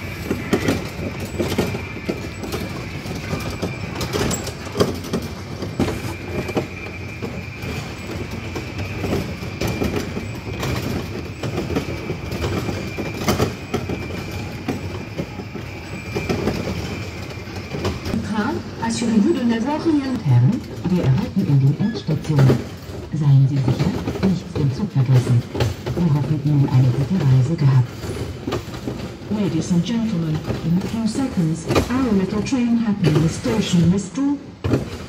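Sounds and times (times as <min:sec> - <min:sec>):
train rumbling along track: 0:00.0 - 0:35.0
wheels clacking: 0:00.0 - 0:35.0.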